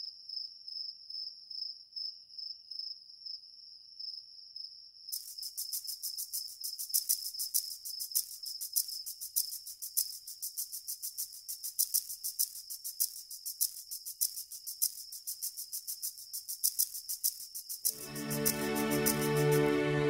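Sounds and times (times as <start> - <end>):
crickets chirping: 0.0 - 19.8.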